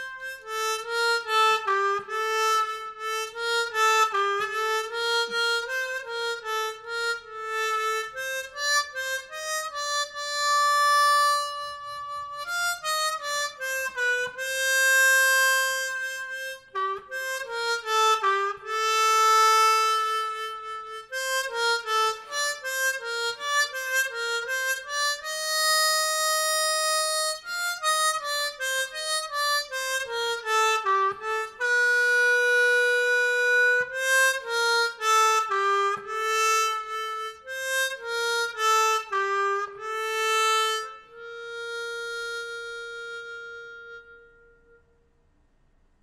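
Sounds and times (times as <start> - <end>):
solo harmonica melody: 0.0 - 45.0.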